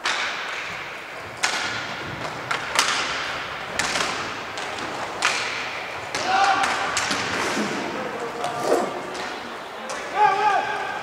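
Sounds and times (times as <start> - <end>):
hockey sticks and puck knocking: 0.0 - 10.4.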